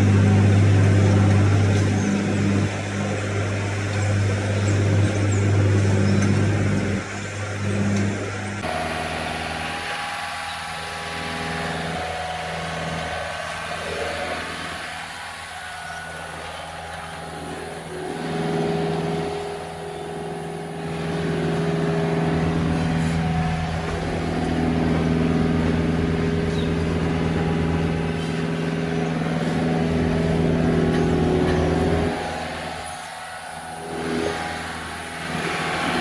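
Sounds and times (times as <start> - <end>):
diesel engine revving under load: 0.0 - 36.0.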